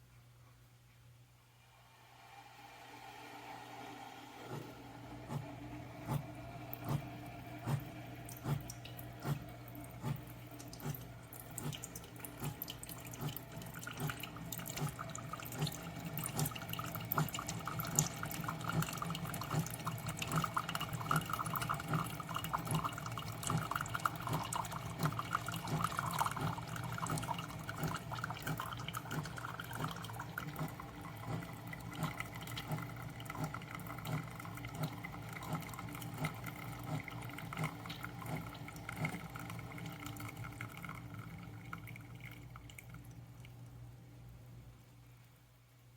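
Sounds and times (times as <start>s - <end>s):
pump humming with pulse: 1.5s - 45.9s
water streaming into cup: 1.9s - 43.8s.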